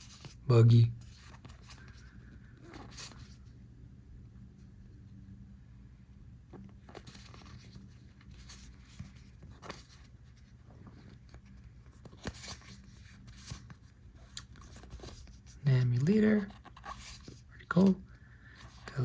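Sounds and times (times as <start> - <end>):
trading cards rustling: 0.0 - 3.5, 6.6 - 19.0
low steady hum: 0.0 - 19.0.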